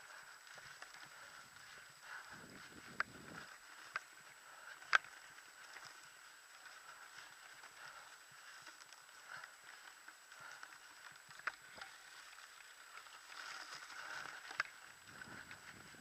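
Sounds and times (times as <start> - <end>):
bike tyres rolling on trail: 0.0 - 16.0.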